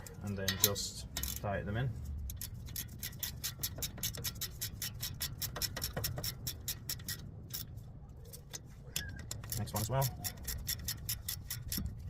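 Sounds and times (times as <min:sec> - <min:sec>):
hand ratchet clicking: 0:00.4 - 0:01.5, 0:02.2 - 0:12.0.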